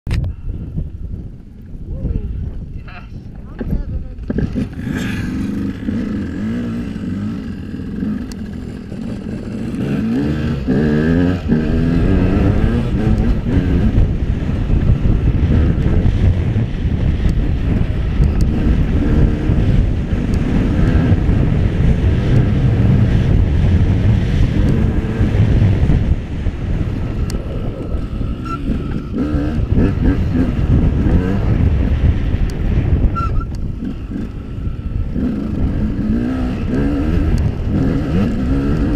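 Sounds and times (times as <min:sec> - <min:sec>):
wind buffeting microphone: 0:00.1 - 0:38.9
dirt bike engine revving: 0:04.2 - 0:38.9.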